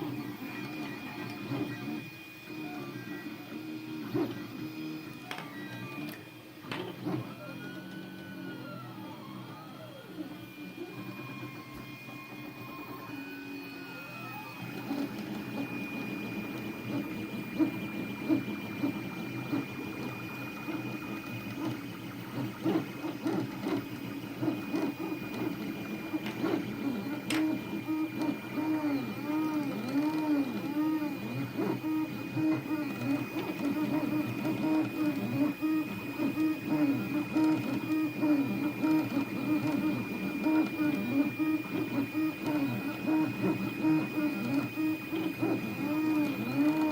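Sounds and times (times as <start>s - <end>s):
stepper motors whirring: 0.0s - 46.9s.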